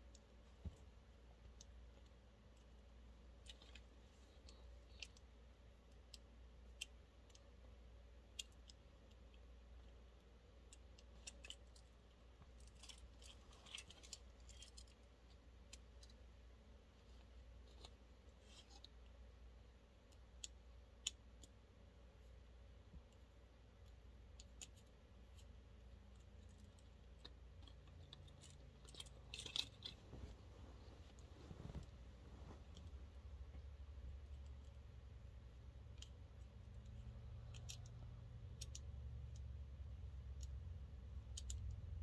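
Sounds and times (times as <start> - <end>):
faint small clicks and taps: 0.0 - 42.0
low steady hum: 0.0 - 42.0.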